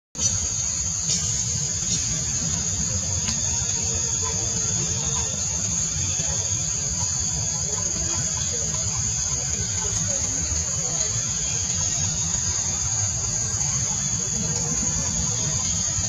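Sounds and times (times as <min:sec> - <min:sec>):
high-pitched insect chorus: 0:00.2 - 0:16.0.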